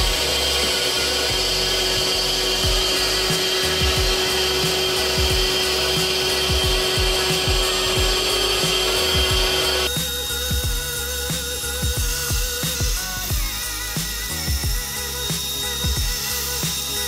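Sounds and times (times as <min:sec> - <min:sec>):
end mill drilling holes: 0:00.0 - 0:17.0
router spindle whining: 0:00.0 - 0:17.0.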